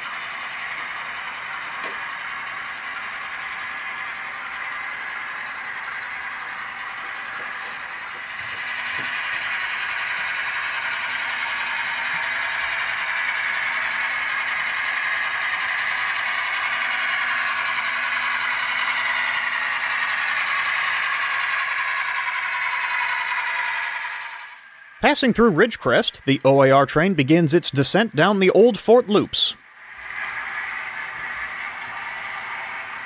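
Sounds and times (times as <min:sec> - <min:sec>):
model train rolling on track: 0:00.0 - 0:33.0.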